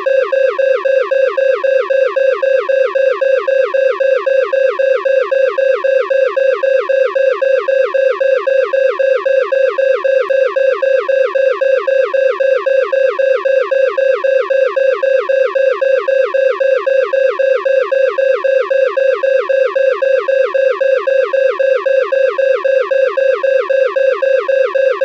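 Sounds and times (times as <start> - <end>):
pulsing electronic alarm beeps: 0.0 - 25.0.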